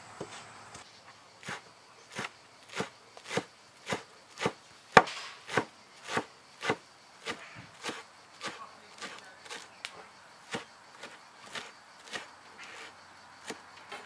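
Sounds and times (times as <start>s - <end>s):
cleaver chopping on wooden board: 1.4s - 9.7s, 10.5s - 14.0s.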